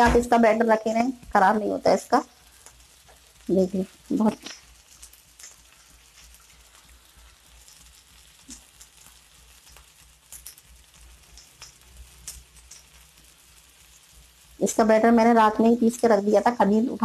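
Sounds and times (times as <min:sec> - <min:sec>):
pancake sizzling in a pan: 0:00.0 - 0:17.0.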